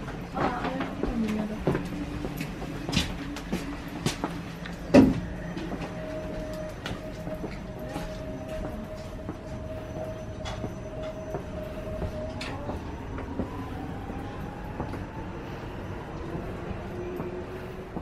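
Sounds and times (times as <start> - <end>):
low train rumble: 0.0 - 18.0.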